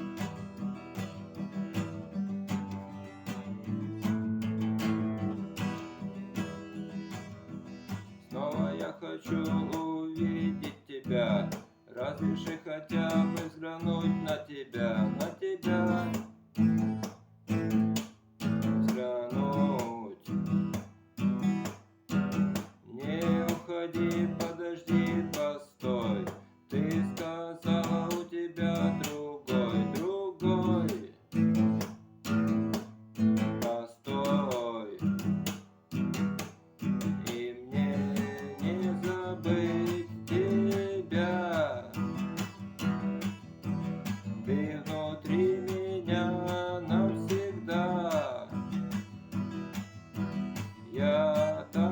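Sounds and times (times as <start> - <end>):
acoustic guitar strumming: 0.0 - 51.9.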